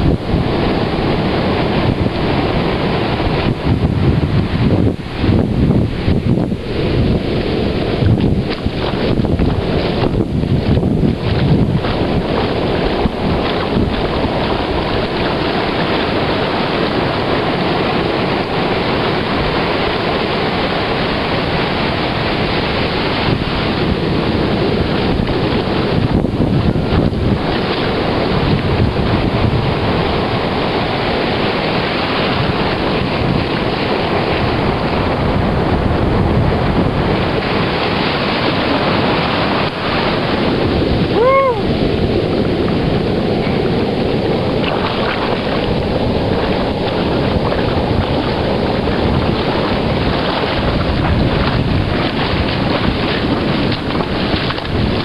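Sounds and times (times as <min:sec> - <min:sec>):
surf breaking: 0:00.0 - 0:55.0
wind buffeting microphone: 0:00.0 - 0:55.0.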